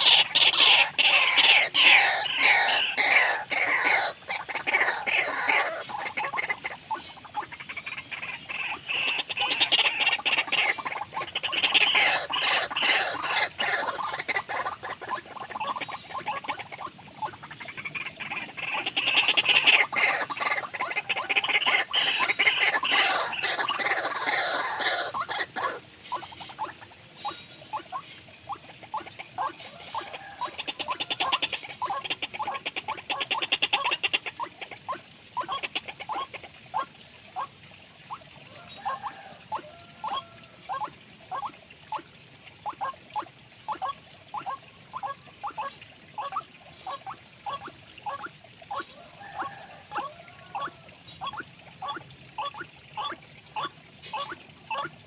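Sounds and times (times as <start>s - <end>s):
animal croaking calls: 0.0s - 55.0s.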